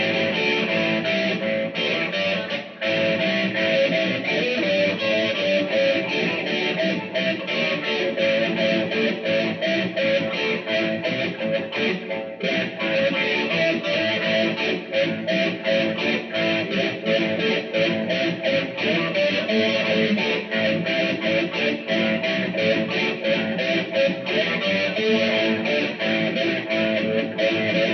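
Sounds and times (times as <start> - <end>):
blues guitar playing: 0.0 - 27.9.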